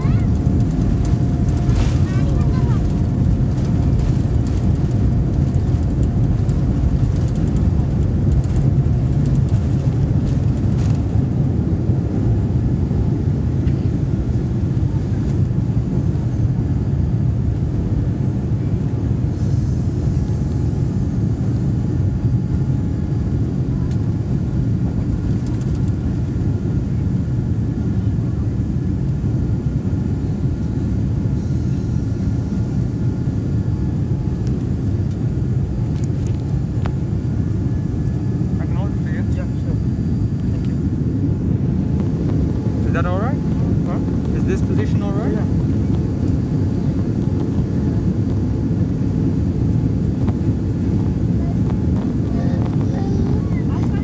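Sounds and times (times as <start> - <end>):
deep rumble of jet engines: 0.0 - 54.0.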